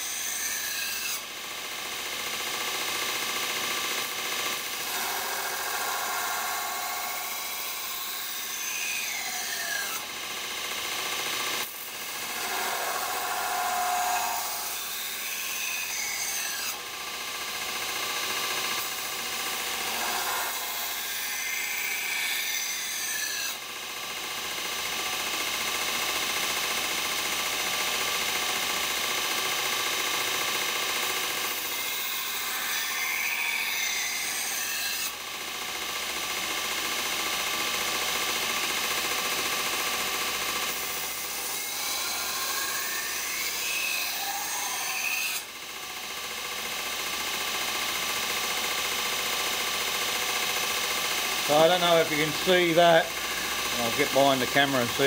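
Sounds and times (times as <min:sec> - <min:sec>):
belt grinder grinding steel: 0:00.0 - 0:23.7, 0:30.2 - 0:35.2, 0:36.5 - 0:55.0.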